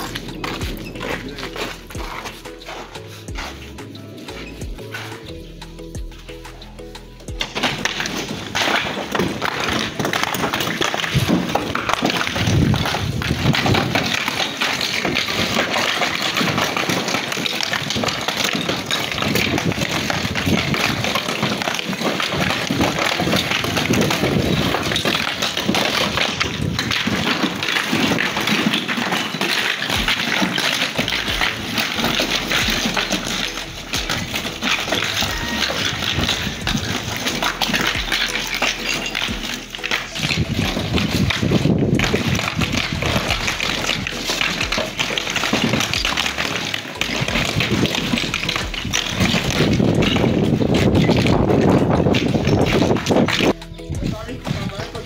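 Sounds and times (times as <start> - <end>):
stones clattering on stone: 0.0 - 5.3, 7.2 - 55.0.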